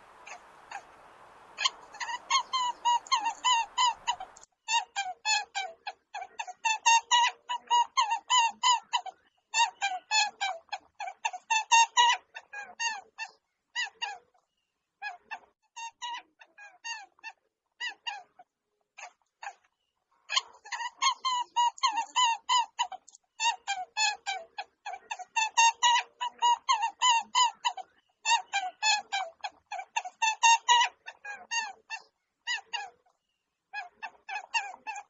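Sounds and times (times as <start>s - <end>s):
high-pitched animal calls: 0.0s - 14.3s, 20.3s - 35.0s.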